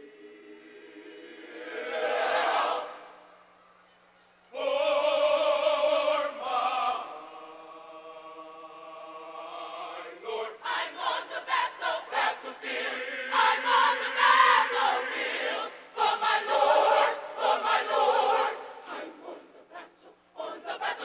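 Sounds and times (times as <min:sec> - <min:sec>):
gospel choir singing: 0:00.0 - 0:03.3, 0:04.6 - 0:21.0.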